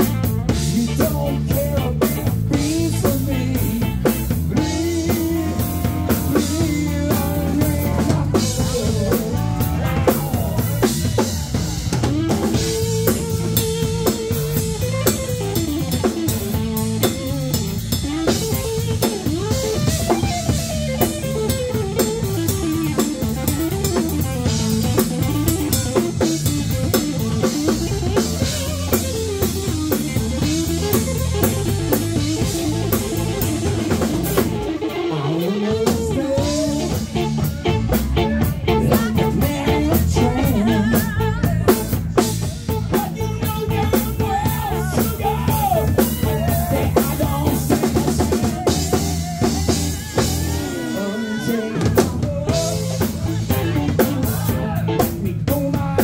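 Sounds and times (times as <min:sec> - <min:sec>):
bass guitar: 0:00.0 - 0:56.0
drum kit beat: 0:00.0 - 0:56.0
electric guitar lead: 0:00.0 - 0:56.0.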